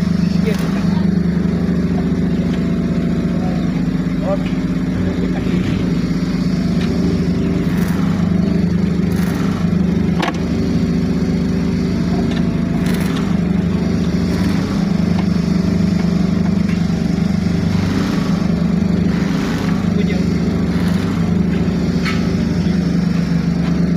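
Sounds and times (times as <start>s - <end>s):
motor engine running: 0.0s - 23.9s.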